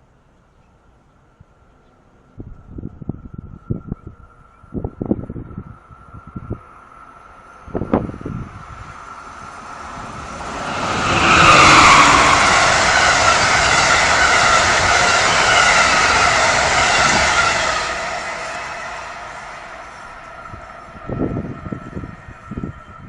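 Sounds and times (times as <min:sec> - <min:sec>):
train passing at speed: 0:01.1 - 0:23.0.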